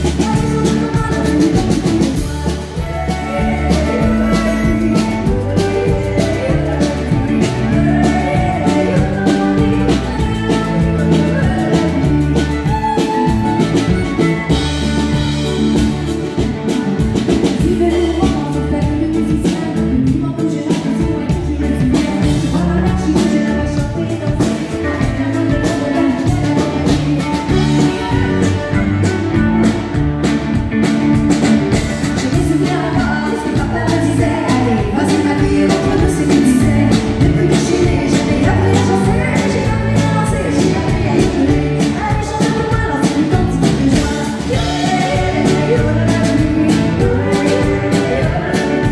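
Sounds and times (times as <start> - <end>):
woman singing into a microphone: 0.0 - 15.9, 17.2 - 29.2, 31.7 - 48.9
country band playing: 0.0 - 48.9.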